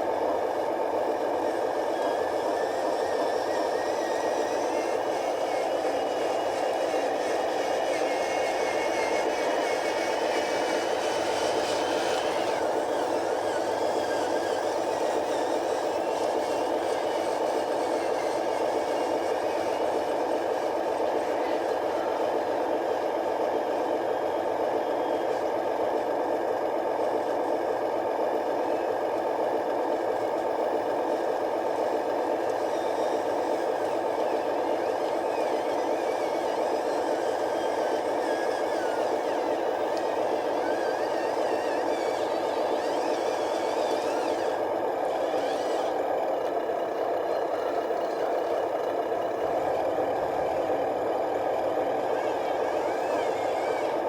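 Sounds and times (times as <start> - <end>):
toy truck electric motor running: 0.0 - 54.0.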